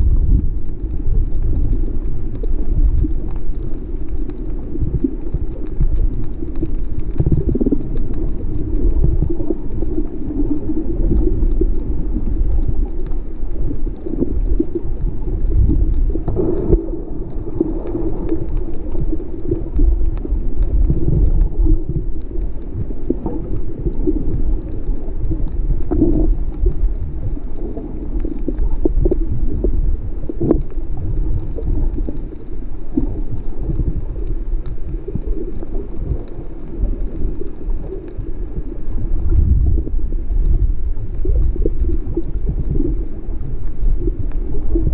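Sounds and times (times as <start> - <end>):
fine crackle of clicks: 0.0 - 44.9
low rumbling wash of water: 0.0 - 44.9.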